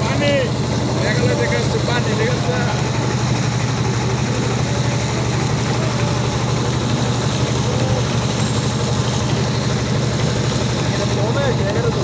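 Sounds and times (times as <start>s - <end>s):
constant rushing noise: 0.0s - 12.0s
motorboat engine droning: 0.0s - 12.0s.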